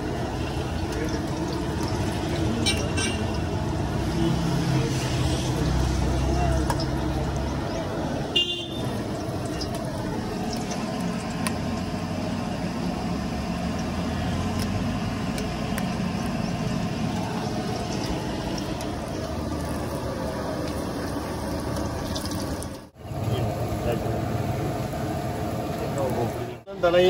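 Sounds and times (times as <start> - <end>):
traffic going by: 0.0 - 27.0.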